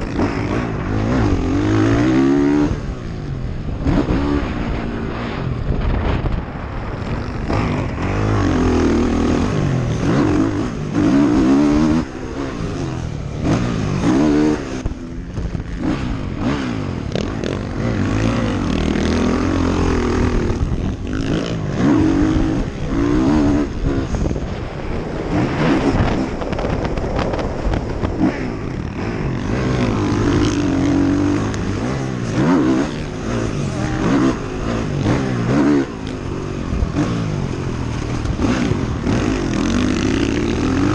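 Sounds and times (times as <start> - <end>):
atv engine revving: 0.0 - 6.2, 7.0 - 40.9
wind buffeting microphone: 0.0 - 40.9.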